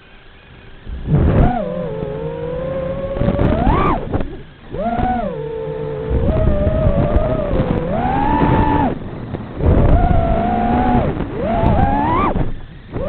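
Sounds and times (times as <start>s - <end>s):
drone motors whining: 0.0s - 13.0s
wind rumble: 0.5s - 13.0s.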